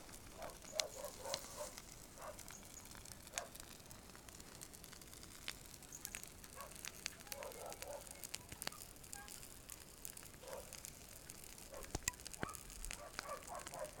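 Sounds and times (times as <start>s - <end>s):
bonfire crackling: 0.0s - 14.0s
burning wood popping: 0.0s - 14.0s
fire hissing: 0.0s - 14.0s.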